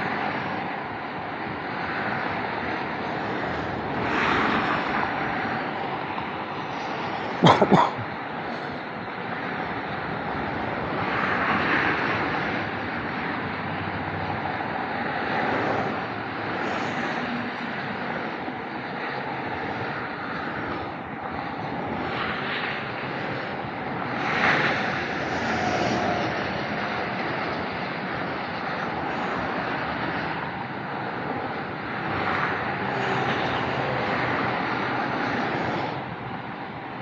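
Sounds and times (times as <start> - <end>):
fast motorway traffic: 0.0 - 37.0
vehicles passing: 0.0 - 37.0.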